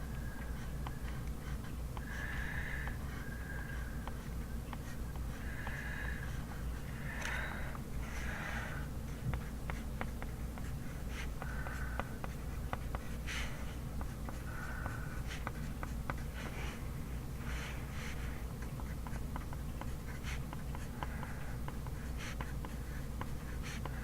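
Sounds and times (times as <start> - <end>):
pen scratching on paper: 0.0 - 7.0, 9.0 - 16.8, 17.4 - 24.0
steady low hum: 0.0 - 24.0.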